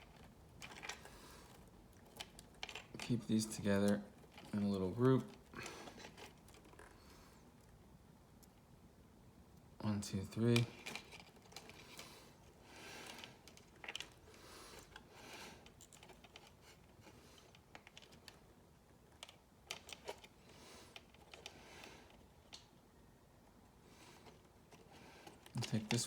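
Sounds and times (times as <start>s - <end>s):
plastic parts rustling: 0.0s - 7.8s, 10.3s - 22.6s, 24.0s - 26.0s.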